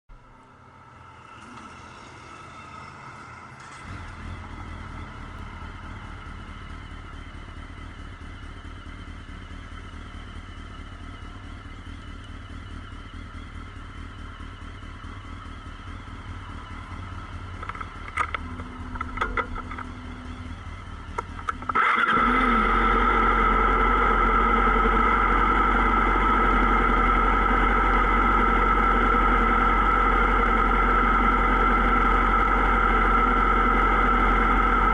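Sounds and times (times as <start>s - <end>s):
loud motorcycle engine starting: 0.6s - 34.9s
motorcycle engine idling: 2.6s - 34.9s.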